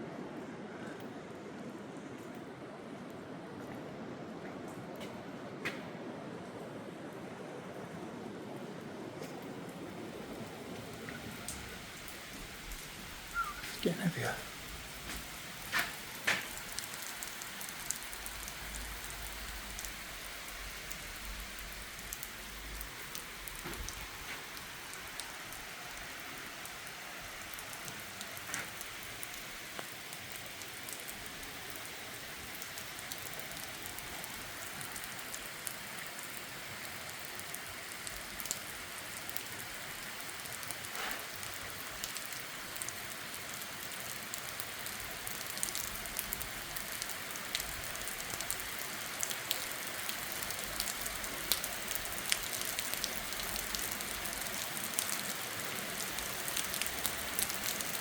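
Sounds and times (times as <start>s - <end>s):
heavy rain on a roof: 0.0s - 58.0s
louder raindrops: 0.2s - 58.0s.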